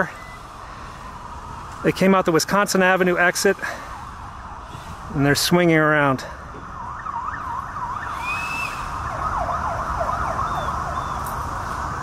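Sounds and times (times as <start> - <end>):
low traffic rumble: 0.0 - 12.0
police sirens yelping: 0.0 - 12.0.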